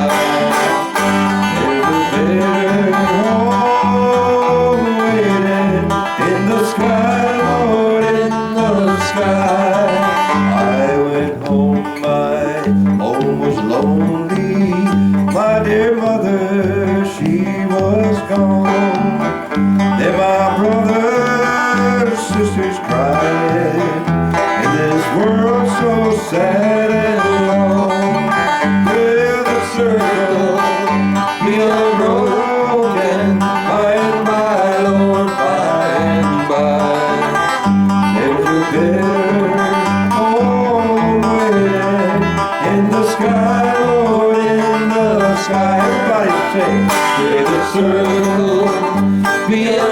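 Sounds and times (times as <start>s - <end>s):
acoustic country song on guitar: 0.0s - 49.9s.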